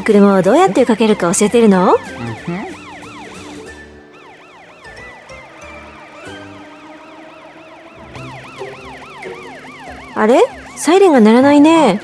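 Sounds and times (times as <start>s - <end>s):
background music: 0.0s - 12.0s
cartoon police siren yelp: 0.0s - 12.0s.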